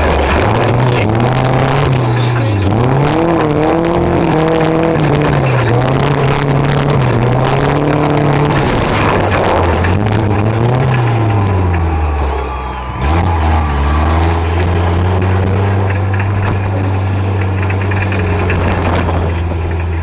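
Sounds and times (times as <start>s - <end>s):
truck engine revving and idling: 0.0s - 20.0s.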